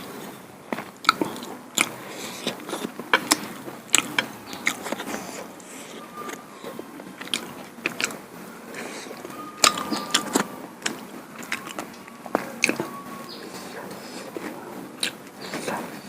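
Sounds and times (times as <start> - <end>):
chewing and mouth smacks: 0.1 - 16.0.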